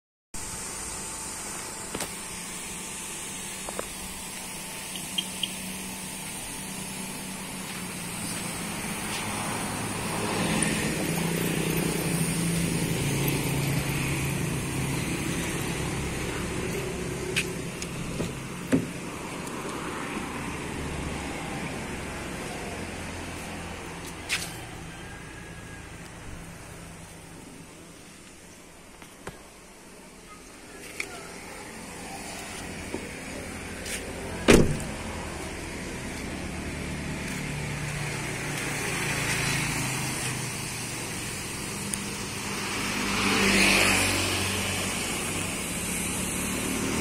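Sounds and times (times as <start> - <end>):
vehicle engine hum: 0.4 - 47.0.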